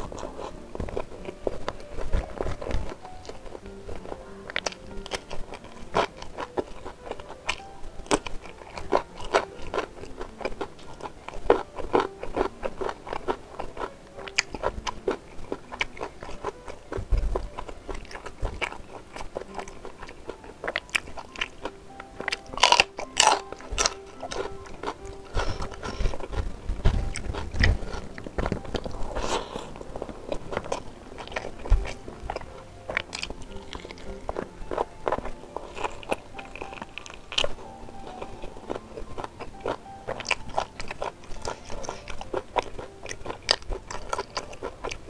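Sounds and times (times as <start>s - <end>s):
chewing meat: 0.0s - 45.0s.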